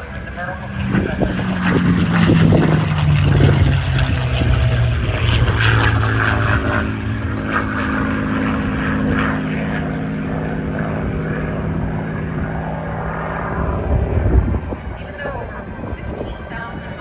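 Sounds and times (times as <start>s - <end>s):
propeller plane engine in flight: 0.0s - 17.0s.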